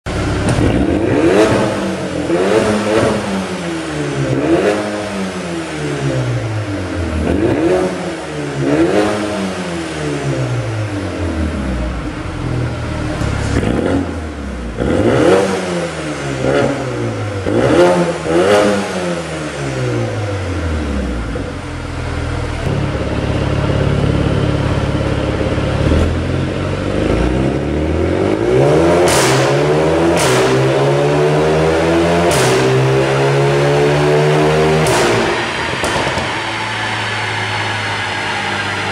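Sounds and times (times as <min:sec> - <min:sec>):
car engine revving: 0:00.1 - 0:38.9.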